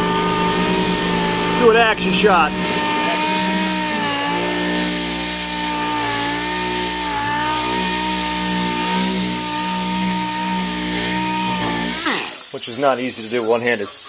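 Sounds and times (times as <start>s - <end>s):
power sander on plastic: 0.0s - 14.0s.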